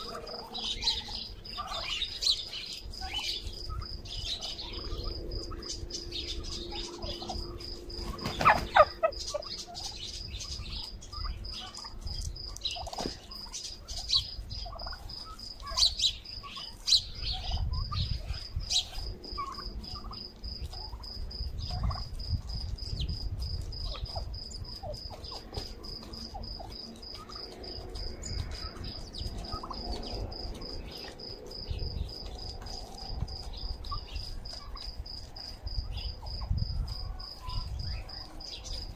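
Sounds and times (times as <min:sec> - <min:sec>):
high insect trill: 0:00.0 - 0:38.9
turkeys calling: 0:00.0 - 0:38.9.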